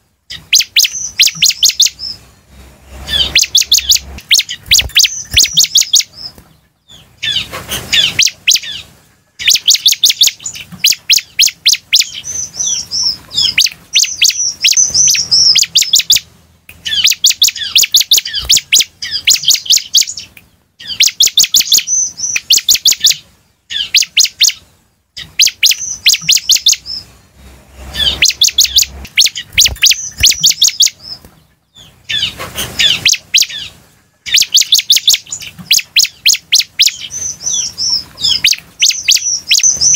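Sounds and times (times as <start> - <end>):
bird song of rapid ticking chirps: 0.3 - 39.9.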